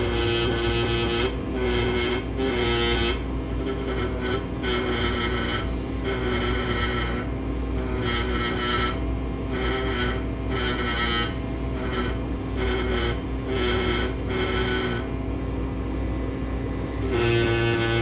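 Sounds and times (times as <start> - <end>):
air scribe buzzing: 0.0 - 18.0
machinery hum: 0.0 - 18.0.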